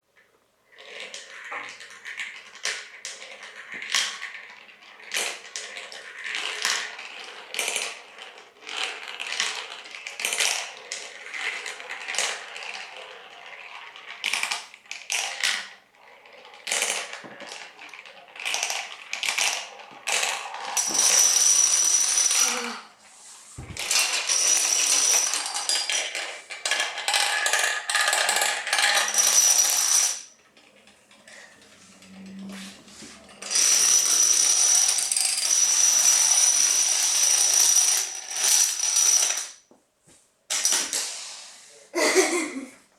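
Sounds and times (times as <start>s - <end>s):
plastic marble run clattering: 0.7s - 22.9s, 23.7s - 39.7s.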